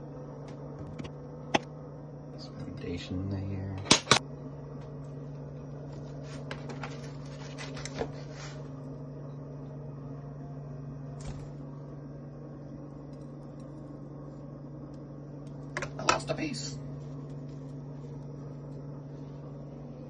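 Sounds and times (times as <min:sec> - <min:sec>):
appliance fan humming: 0:00.0 - 0:20.0.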